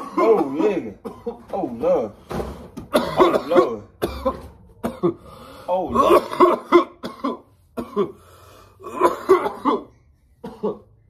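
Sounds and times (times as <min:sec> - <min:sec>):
man coughing hard: 0:00.0 - 0:01.5, 0:02.9 - 0:08.2, 0:08.8 - 0:11.0.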